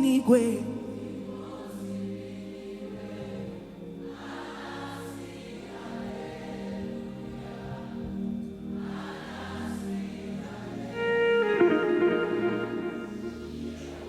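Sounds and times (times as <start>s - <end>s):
slow gospel choir music: 0.0s - 14.0s.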